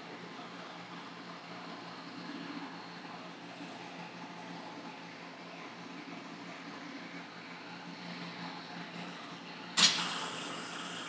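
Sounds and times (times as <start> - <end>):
machine hum with fan hiss: 0.0 - 11.0.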